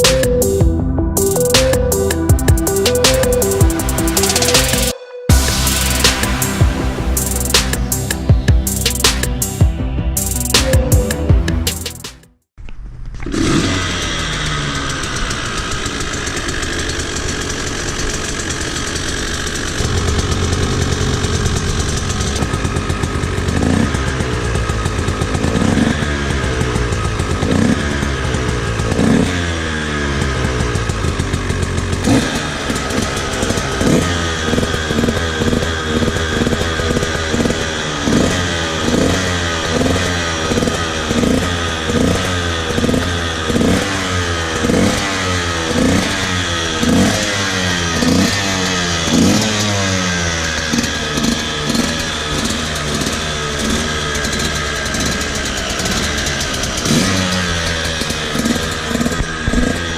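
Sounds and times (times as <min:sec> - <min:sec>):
two-stroke motorcycle engine revving: 0:00.0 - 0:12.3, 0:13.2 - 0:59.9.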